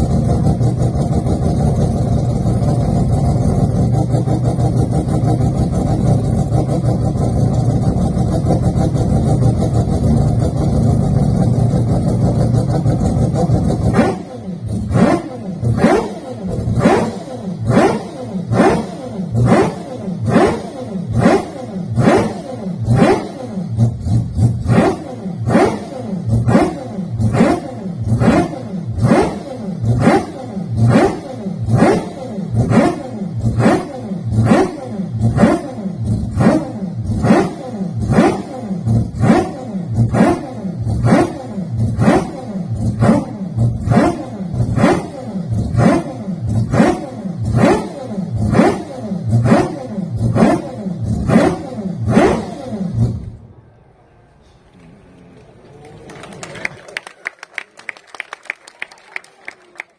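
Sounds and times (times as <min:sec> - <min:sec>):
rotary racing engine revving: 0:00.0 - 0:53.6.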